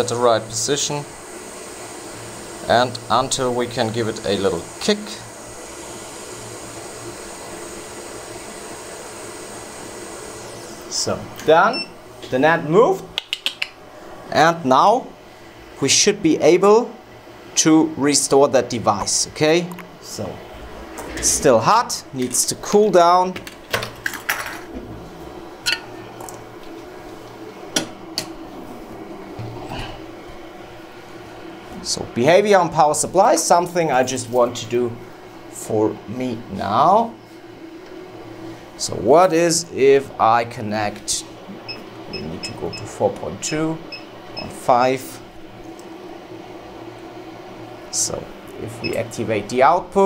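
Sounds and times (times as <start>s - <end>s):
hot air blower hissing: 0.0s - 23.4s, 24.7s - 50.0s
low hum of bench equipment: 0.0s - 50.0s.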